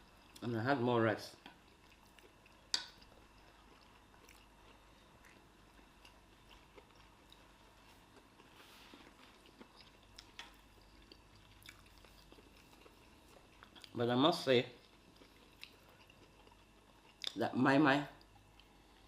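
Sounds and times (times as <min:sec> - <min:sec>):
chewing and mouth sounds: 0:01.3 - 0:14.0, 0:14.6 - 0:17.4.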